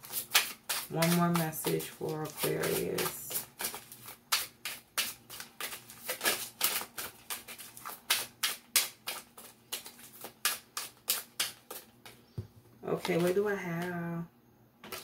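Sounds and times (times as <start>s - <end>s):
cards being shuffled: 0.0s - 12.2s.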